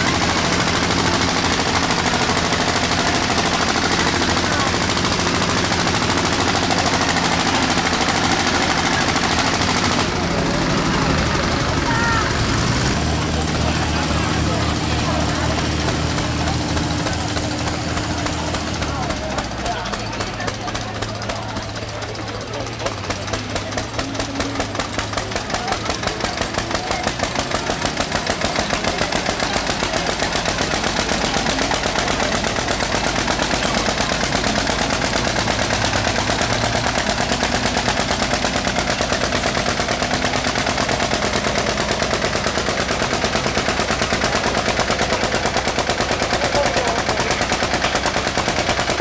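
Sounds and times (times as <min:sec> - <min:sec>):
tractor engine chugging: 0:00.0 - 0:49.0.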